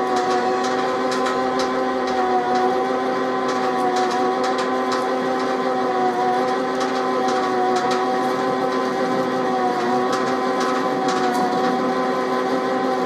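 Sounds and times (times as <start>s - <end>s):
metal lathe whining: 0.0s - 13.0s.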